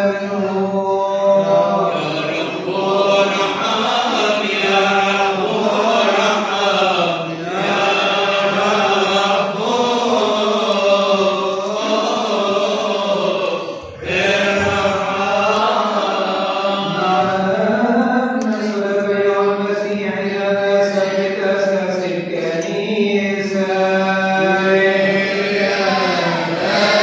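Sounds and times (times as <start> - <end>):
man chanting a hymn: 0.0 - 27.0.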